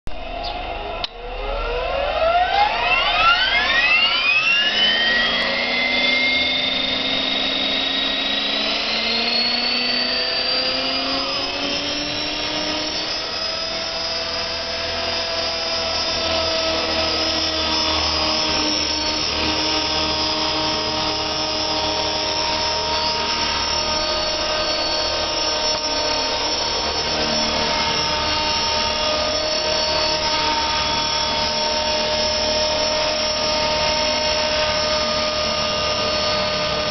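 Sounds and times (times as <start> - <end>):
rc helicopter whine: 0.1 - 36.9.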